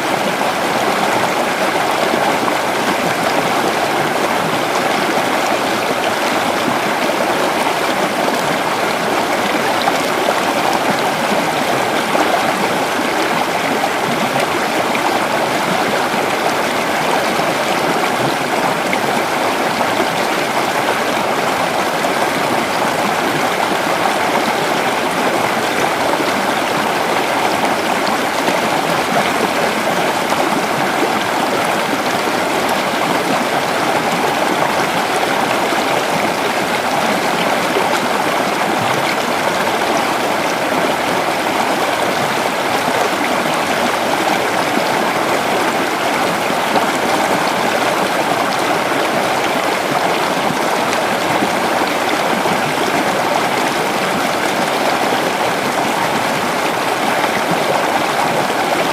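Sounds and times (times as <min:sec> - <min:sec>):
creek water flowing over stones: 0:00.0 - 0:58.9.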